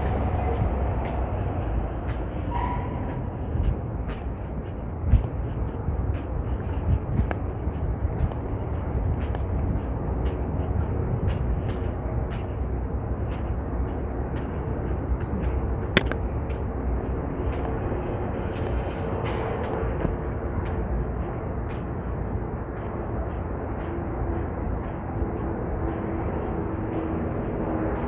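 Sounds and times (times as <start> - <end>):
low traffic rumble: 0.0 - 28.0.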